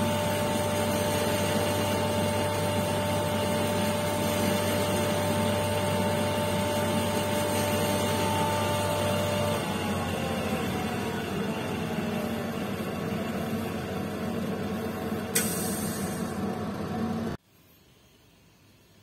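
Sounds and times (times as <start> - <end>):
grinding wheel motor whining: 0.0 - 15.4.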